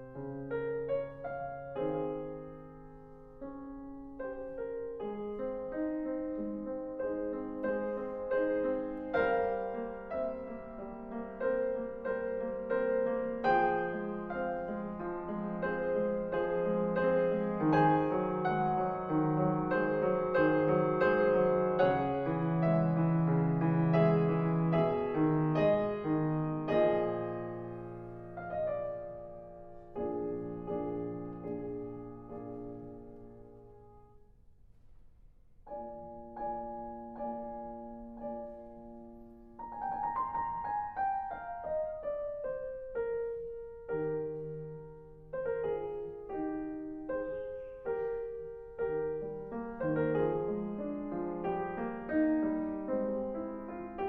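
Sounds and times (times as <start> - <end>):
slow piano melody: 0.0 - 54.0.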